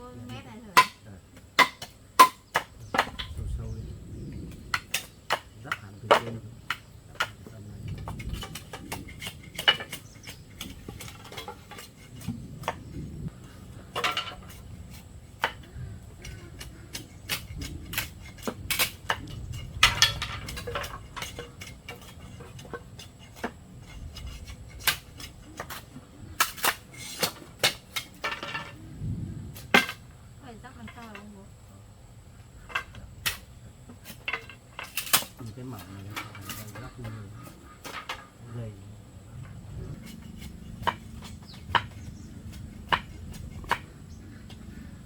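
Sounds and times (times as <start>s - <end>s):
bamboo pieces knocking: 0.8s - 3.5s, 4.4s - 28.8s, 32.6s - 38.4s, 39.4s - 45.0s.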